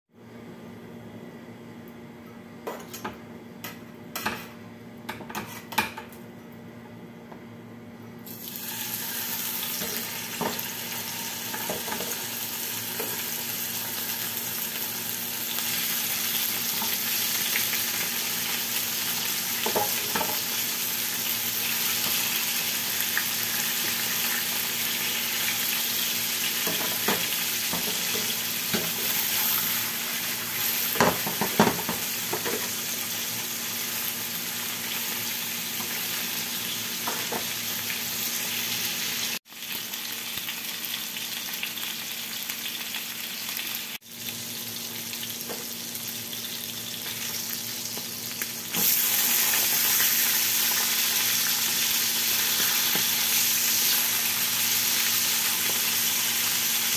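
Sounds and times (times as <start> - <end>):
fish sizzling in hot oil: 8.3 - 56.9.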